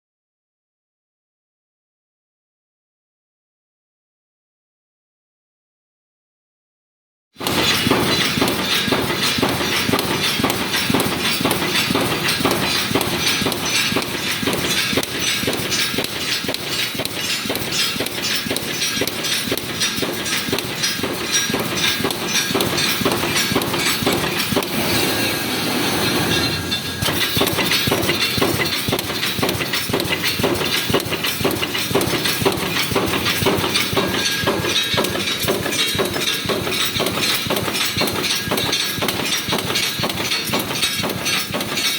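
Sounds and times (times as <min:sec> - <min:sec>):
welding machine clattering: 0:07.4 - 0:41.9.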